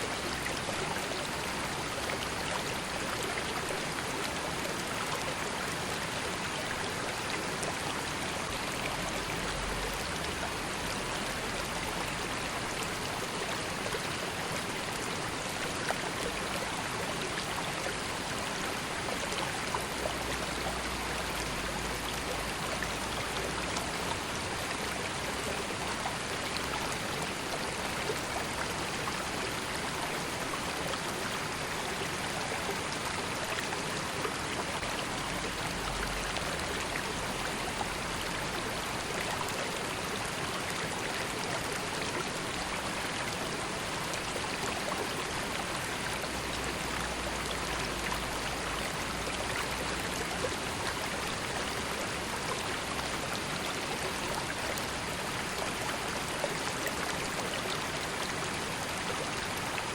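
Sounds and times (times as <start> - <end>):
river water flowing: 0.0 - 59.9
small water splashes and trickles: 0.0 - 59.9.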